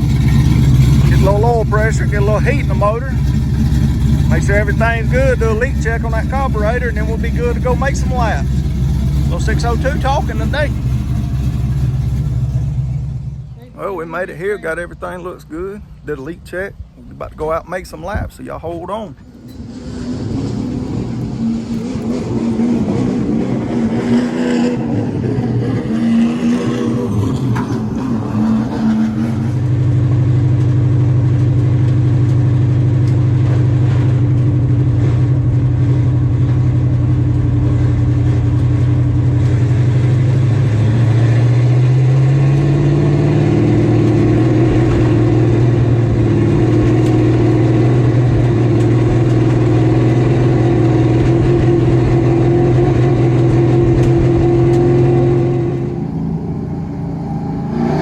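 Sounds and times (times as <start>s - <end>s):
race car engine running: 0.0s - 13.7s, 19.2s - 58.0s.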